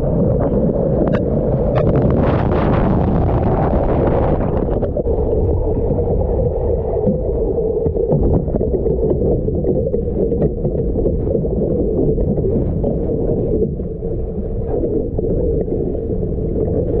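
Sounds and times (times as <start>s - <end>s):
muffled rush of water: 0.0s - 17.0s.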